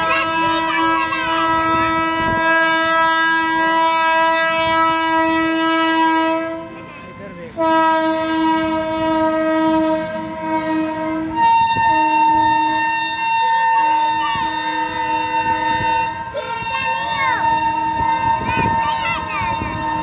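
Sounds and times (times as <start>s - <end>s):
train horn blasts: 0.0s - 20.0s.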